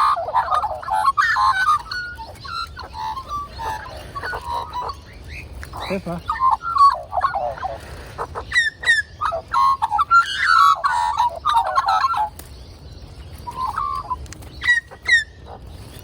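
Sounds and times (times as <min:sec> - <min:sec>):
magpies calling and warbling: 0:00.0 - 0:16.0.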